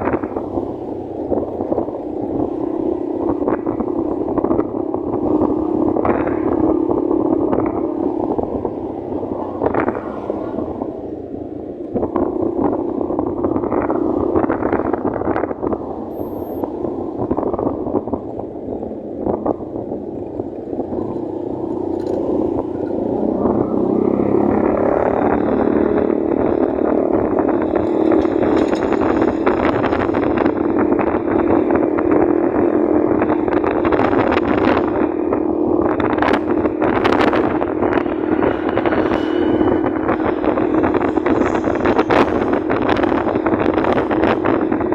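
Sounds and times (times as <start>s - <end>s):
motorcycle engine: 0.0s - 44.9s
road noise: 0.0s - 44.9s
wind rushing: 0.0s - 44.9s.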